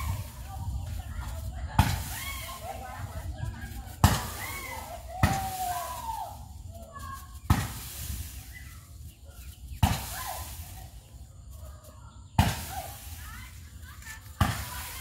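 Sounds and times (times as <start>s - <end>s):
fireworks bangs: 0.0s - 9.0s, 9.6s - 11.0s, 12.4s - 15.0s
fireworks crackling: 0.0s - 15.0s.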